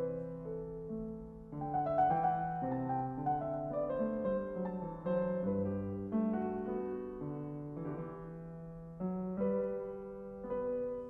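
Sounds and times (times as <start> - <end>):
slow soft piano music: 0.0 - 11.0.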